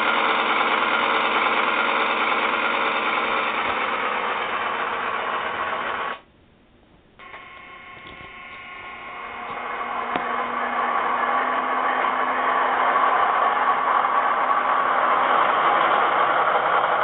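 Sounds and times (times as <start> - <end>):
diesel locomotive engine from speaker: 0.0 - 6.2, 7.2 - 17.0.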